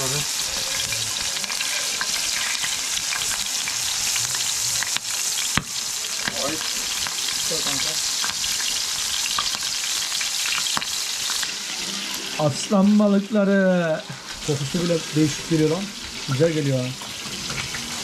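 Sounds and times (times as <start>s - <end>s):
fish frying in hot oil: 0.0s - 18.0s.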